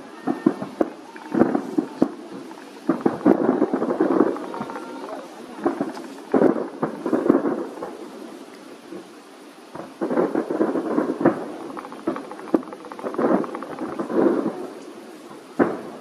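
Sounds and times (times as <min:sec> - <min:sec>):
firework shell bursts booming: 0:00.0 - 0:08.0, 0:09.7 - 0:15.0
sharp firework bangs: 0:00.0 - 0:08.1, 0:09.7 - 0:16.0
fireworks crackling and popping: 0:00.0 - 0:16.0.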